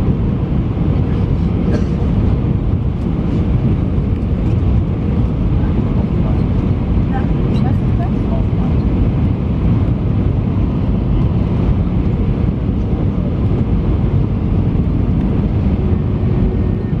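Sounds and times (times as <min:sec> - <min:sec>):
airplane cabin engine and airflow noise: 0:00.0 - 0:17.0.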